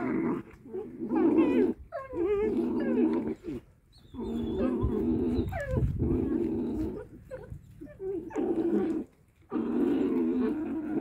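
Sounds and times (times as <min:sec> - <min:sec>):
wolf pups growling: 0:00.0 - 0:11.0.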